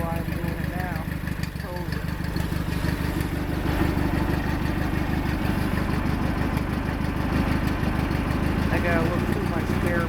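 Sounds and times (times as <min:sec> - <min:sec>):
garden tractor engine idling: 0:00.0 - 0:10.0.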